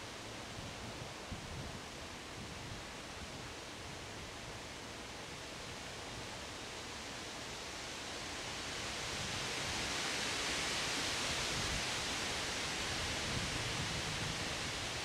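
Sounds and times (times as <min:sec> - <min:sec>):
wind rushing through leaves: 0:00.0 - 0:15.0.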